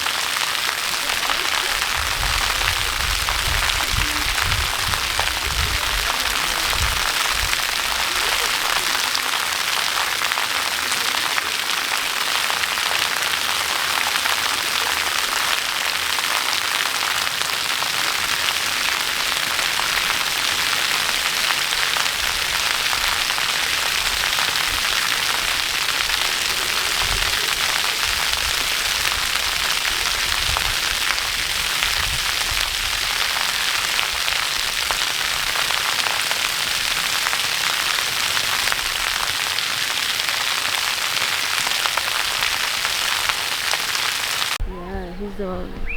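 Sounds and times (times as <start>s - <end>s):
rushing falling water: 0.0s - 44.6s.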